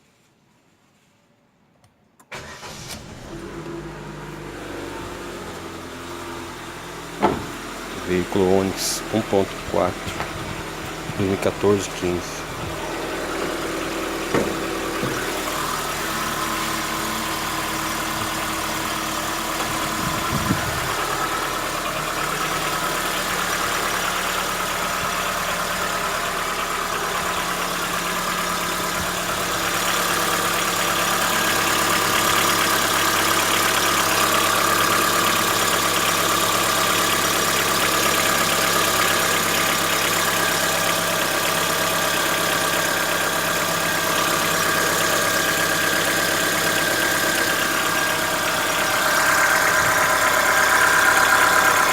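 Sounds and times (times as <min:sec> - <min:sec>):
car engine idling with clatter: 0:02.4 - 0:51.9.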